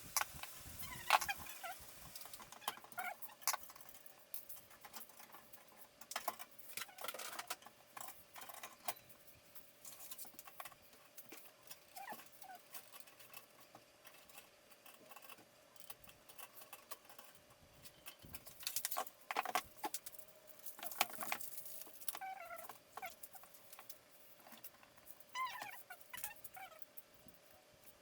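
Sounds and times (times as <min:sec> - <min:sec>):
computer parts clicking and scraping: 0:00.2 - 0:26.6.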